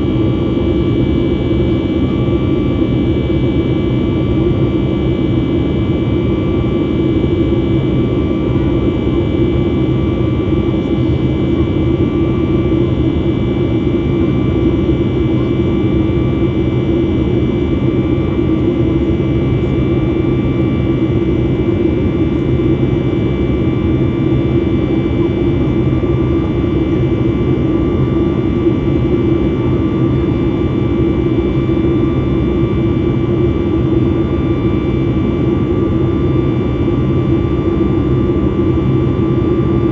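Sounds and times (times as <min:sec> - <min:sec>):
airplane cabin rumble: 0:00.0 - 0:39.9
jet engines droning: 0:00.0 - 0:39.9.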